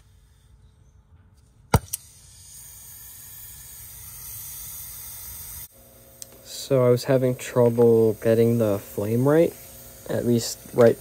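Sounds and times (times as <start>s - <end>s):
torch burning with steady hiss: 1.7s - 11.0s.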